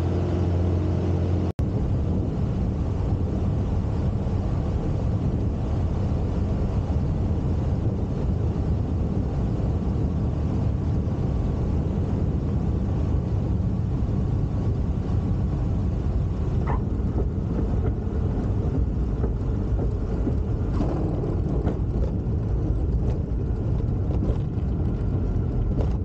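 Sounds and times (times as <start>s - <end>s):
light aircraft engine running: 0.0s - 26.0s.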